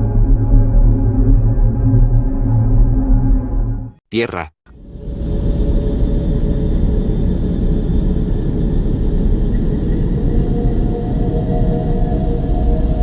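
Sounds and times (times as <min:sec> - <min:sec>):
deep rumbling drone: 0:00.0 - 0:03.9, 0:04.7 - 0:13.0.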